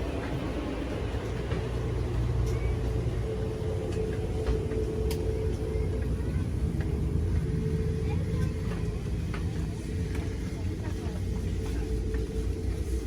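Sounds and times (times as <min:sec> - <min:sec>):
passenger train rumbling: 0:00.0 - 0:13.0.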